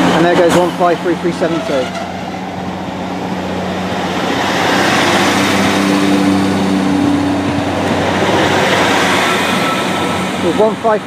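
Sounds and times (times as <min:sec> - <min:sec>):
diesel train engines working: 0:00.0 - 0:11.0.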